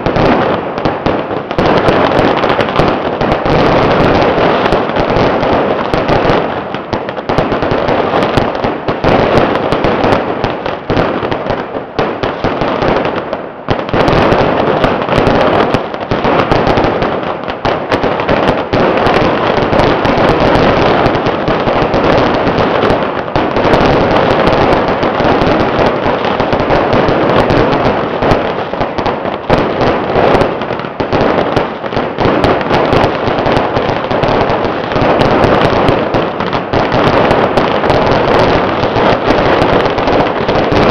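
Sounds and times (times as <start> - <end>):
firecrackers crackling: 0.0 - 40.9.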